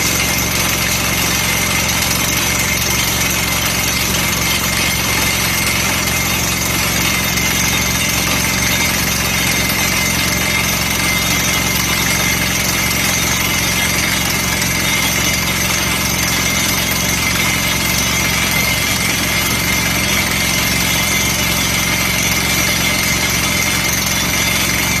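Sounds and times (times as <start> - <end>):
drilling rig running: 0.0 - 25.0
high machine whine: 0.0 - 25.0.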